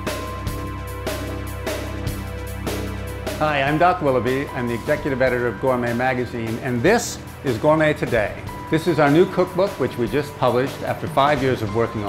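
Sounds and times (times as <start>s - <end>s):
theme music with steady beat: 0.0s - 12.0s.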